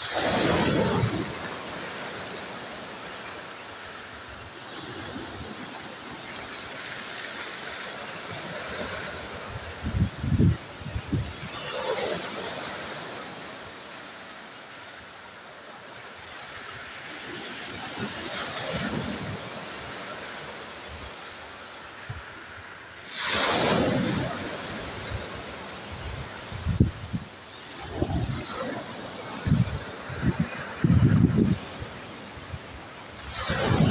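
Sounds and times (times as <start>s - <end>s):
sea waves washing onto shore: 0.0s - 33.9s.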